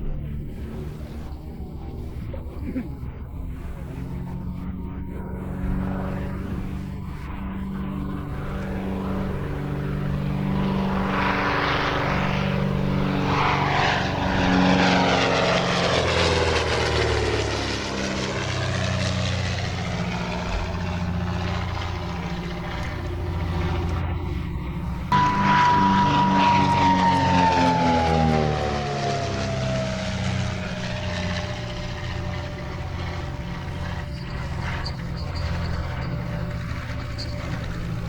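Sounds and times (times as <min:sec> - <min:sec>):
aircraft engine drone passing: 0:00.0 - 0:38.0.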